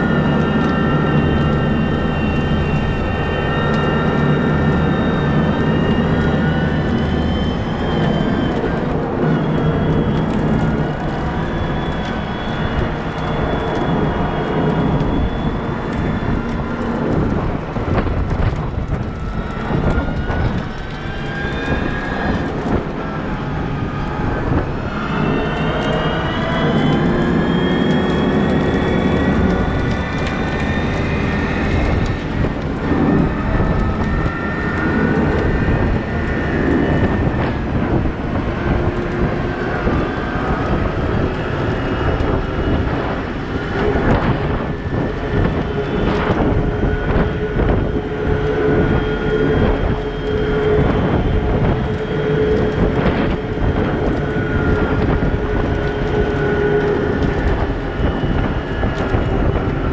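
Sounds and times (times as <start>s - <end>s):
steady whine: 0.0s - 59.9s.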